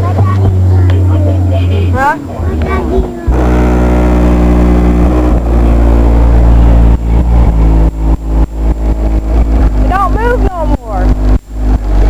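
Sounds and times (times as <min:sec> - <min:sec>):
loud subwoofer bass: 0:00.0 - 0:12.0.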